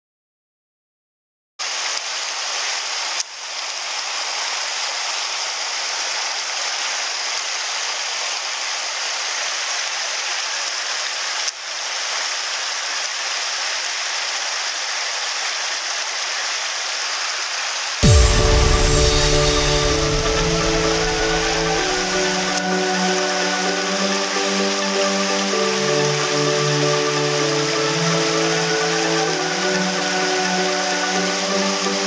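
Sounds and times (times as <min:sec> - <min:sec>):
stream running over stones: 0:01.6 - 0:32.0.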